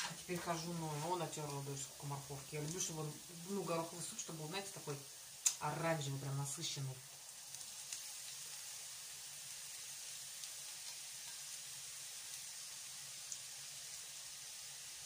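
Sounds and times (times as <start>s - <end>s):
carrot sizzling in a pan: 0.0s - 15.0s.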